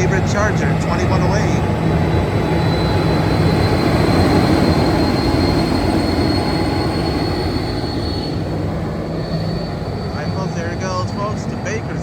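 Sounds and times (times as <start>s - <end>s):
diesel locomotive rumbling: 0.0s - 12.0s
high wheel squeal: 0.0s - 12.0s.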